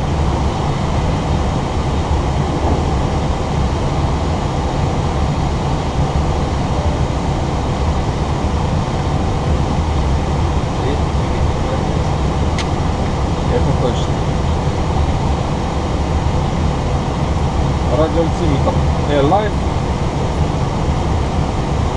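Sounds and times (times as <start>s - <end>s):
low even hum: 0.0s - 21.9s
rushing cockpit cabin noise: 0.0s - 21.9s.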